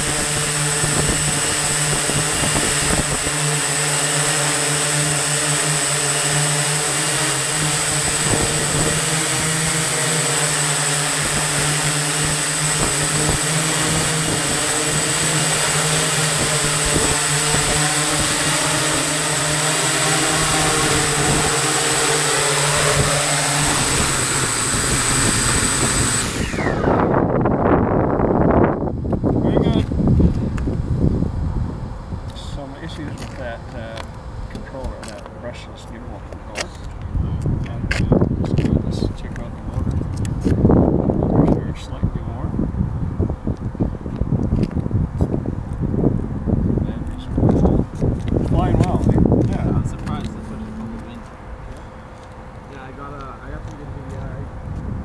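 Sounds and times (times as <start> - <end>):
drone motors whirring: 0.0 - 55.0.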